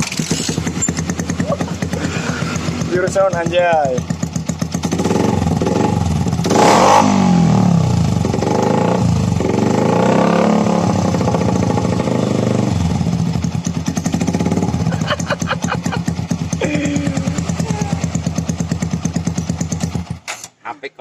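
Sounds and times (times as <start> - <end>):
motorcycle engine revving: 0.0 - 20.3.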